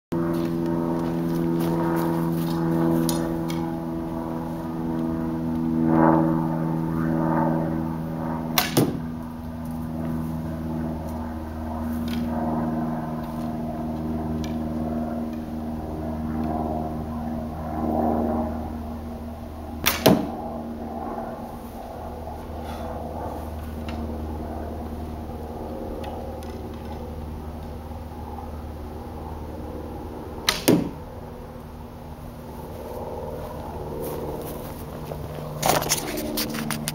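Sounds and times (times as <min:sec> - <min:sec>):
steady low hum: 0:00.1 - 0:36.9.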